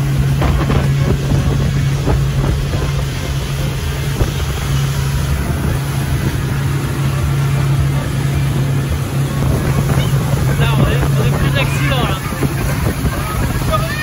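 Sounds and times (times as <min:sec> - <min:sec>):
motorboat engine running: 0:00.0 - 0:14.0
rushing wind: 0:00.0 - 0:14.0
water noise: 0:00.0 - 0:14.0.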